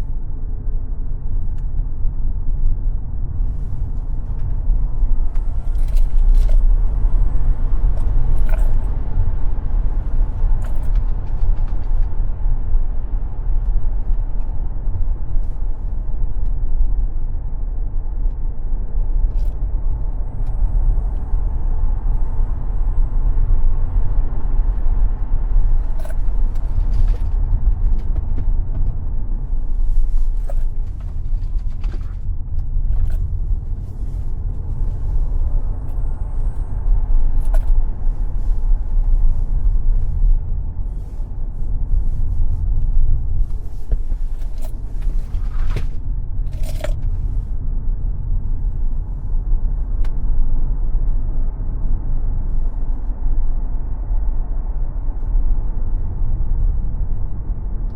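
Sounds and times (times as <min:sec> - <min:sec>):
car tyre and road rumble: 0:00.0 - 0:57.9.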